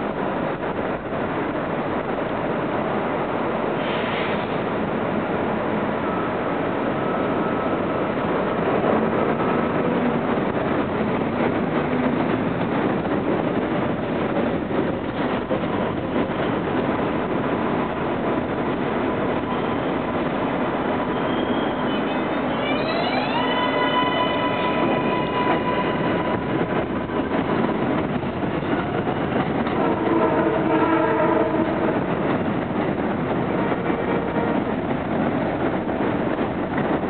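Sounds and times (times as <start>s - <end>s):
subway train equipment humming: 0.0s - 37.0s.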